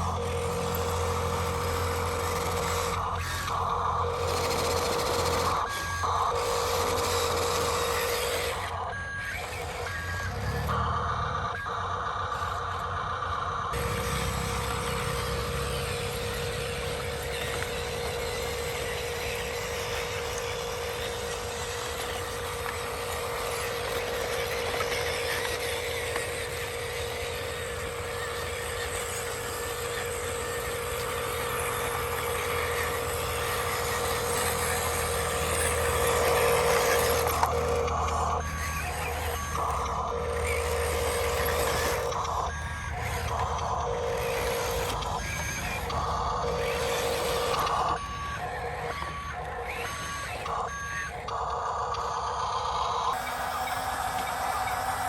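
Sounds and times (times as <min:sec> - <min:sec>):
model vehicle engines running: 0:00.0 - 0:55.0.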